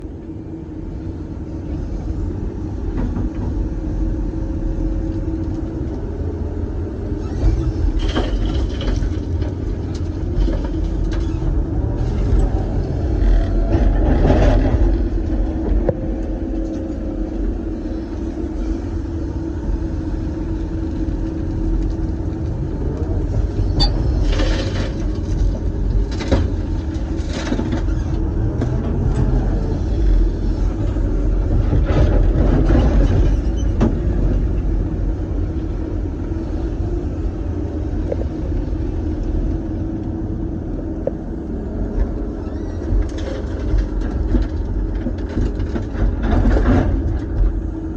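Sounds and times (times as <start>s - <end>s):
excavator engine and hydraulics running: 0.0s - 47.9s.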